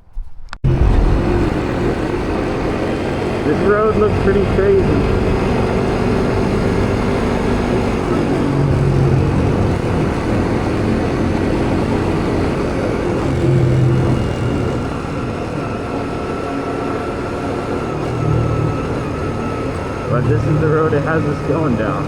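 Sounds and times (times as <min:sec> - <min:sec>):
wind on microphone: 0:00.2 - 0:20.2
motorcycle engine running: 0:00.6 - 0:22.0.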